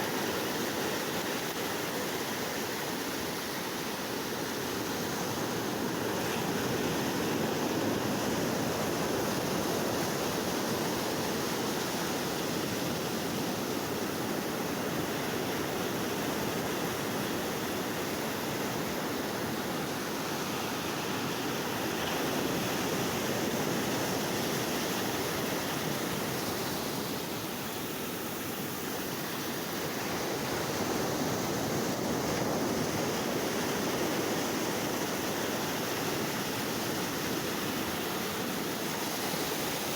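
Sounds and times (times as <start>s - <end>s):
sea waves on shore: 0.0s - 39.9s.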